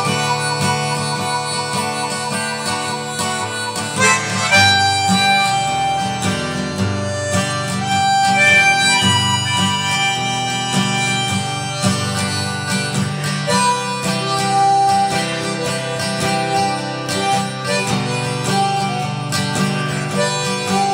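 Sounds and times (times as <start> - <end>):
harmonica playing held notes: 0.0 - 20.9
strummed acoustic guitar: 0.0 - 20.9.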